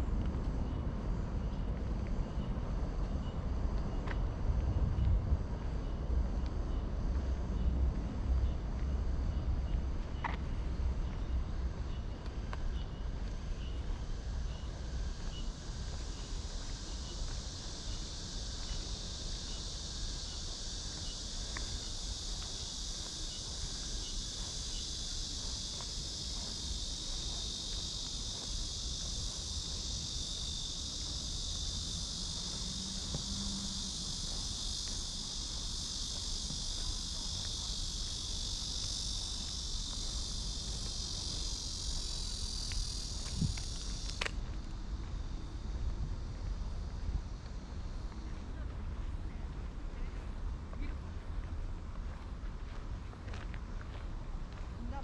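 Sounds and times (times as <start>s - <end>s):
cicadas shrilling: 0.0s - 55.0s.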